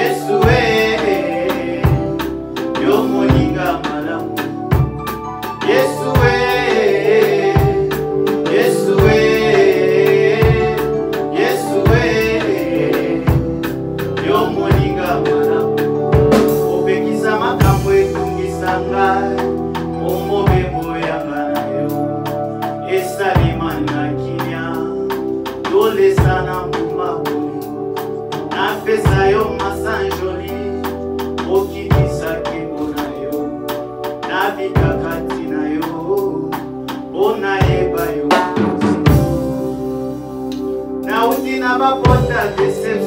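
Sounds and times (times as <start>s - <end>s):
man singing: 0.0s - 39.6s, 41.0s - 43.0s
drum kit beat: 0.0s - 43.0s
sustained chords: 0.0s - 43.0s.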